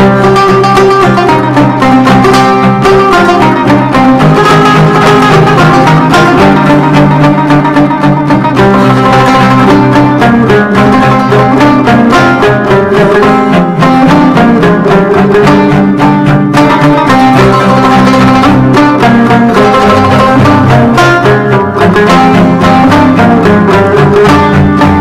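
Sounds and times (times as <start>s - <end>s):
instrumental music with held notes: 0.0s - 25.0s.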